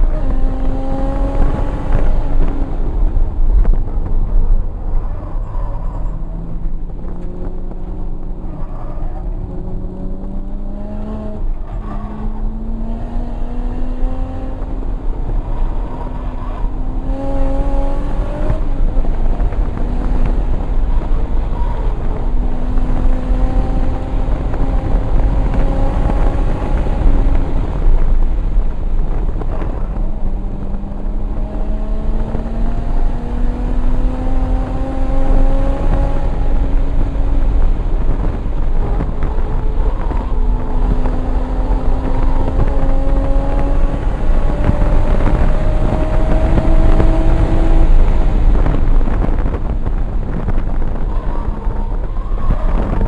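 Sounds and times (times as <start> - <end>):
car engine accelerating hard: 0.0 - 53.0.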